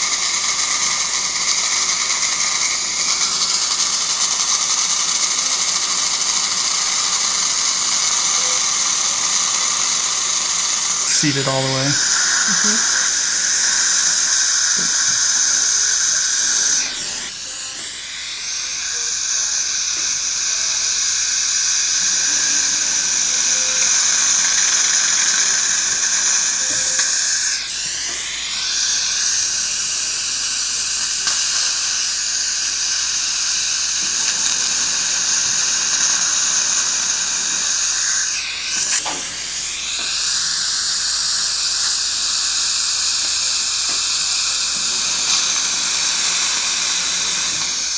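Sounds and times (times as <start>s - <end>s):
drill handpiece whining: 0.0s - 47.9s.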